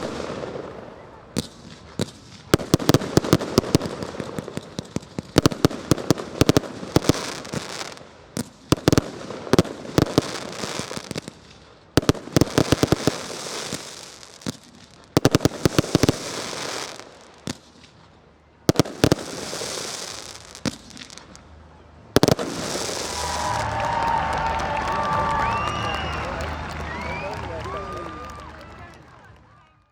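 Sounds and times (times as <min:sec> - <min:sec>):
firework bangs: 0:00.0 - 0:18.0, 0:18.7 - 0:21.5, 0:22.1 - 0:28.6.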